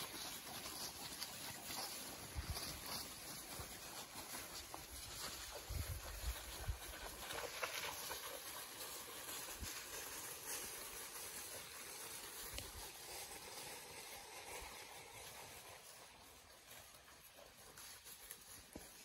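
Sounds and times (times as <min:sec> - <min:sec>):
footsteps through dry leaves: 0:00.0 - 0:17.0.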